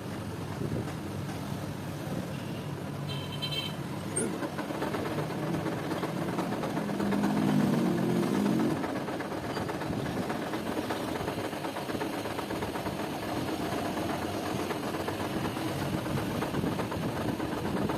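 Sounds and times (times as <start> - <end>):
machine rattling steadily: 3.1 - 17.9.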